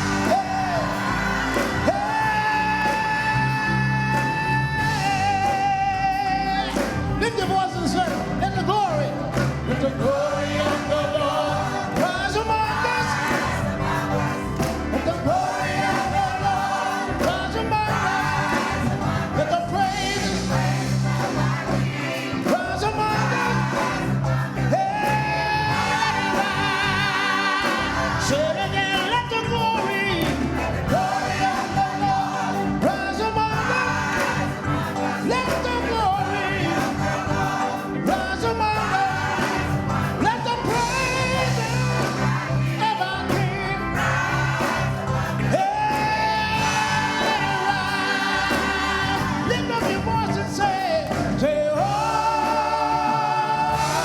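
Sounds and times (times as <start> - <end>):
band with steady bass line: 0.0 - 54.0.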